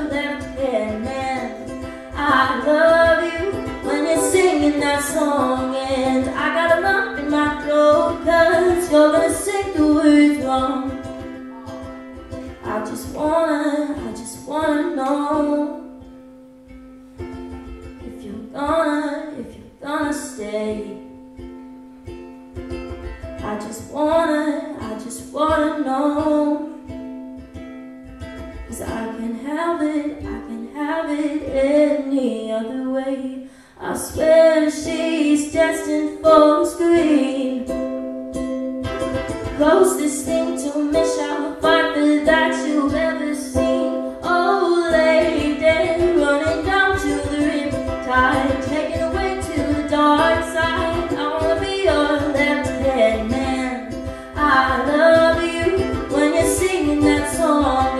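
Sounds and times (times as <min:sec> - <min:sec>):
woman singing: 0:00.0 - 0:16.2, 0:17.6 - 0:21.6, 0:22.6 - 0:27.2, 0:28.2 - 0:57.9
strummed ukulele: 0:00.0 - 0:57.9.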